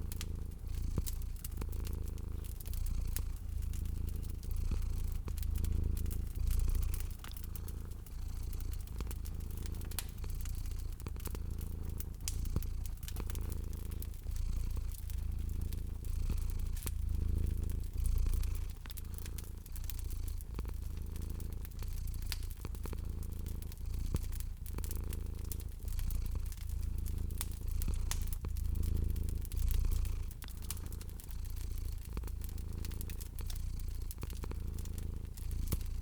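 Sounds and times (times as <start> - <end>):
cat purring: 0.0 - 36.0
wood fire crackling: 0.0 - 36.0.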